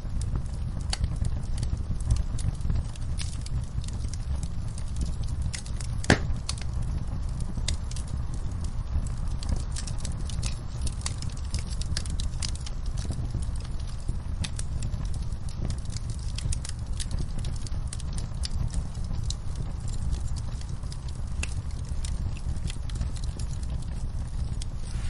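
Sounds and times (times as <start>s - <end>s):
fireplace fire crackling and popping: 0.0s - 25.0s
low fire rumble: 0.0s - 25.0s.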